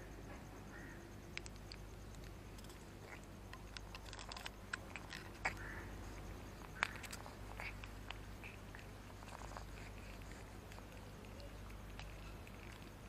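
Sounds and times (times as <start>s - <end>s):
cat licking and sniffing: 1.3s - 13.0s.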